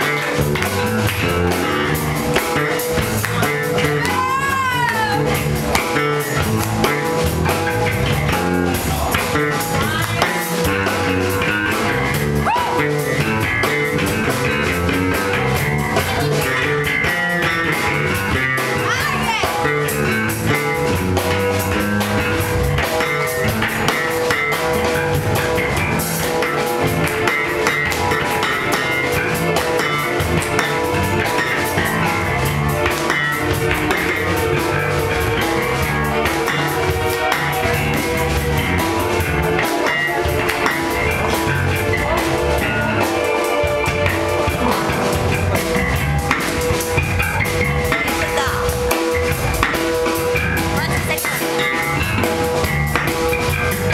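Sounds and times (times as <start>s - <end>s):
band playing rock music: 0.0s - 53.9s
drum kit: 0.0s - 53.9s
guitar: 0.0s - 53.9s.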